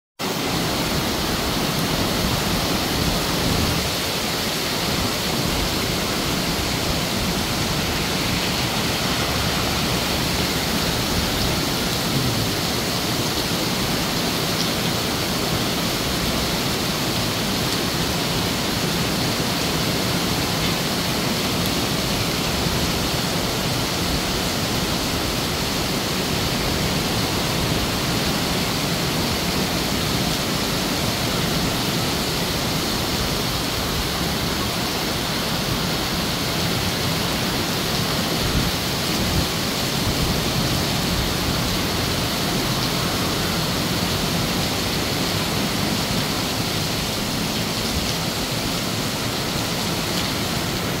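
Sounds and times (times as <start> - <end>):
heavy rain on pavement: 0.2 - 51.0.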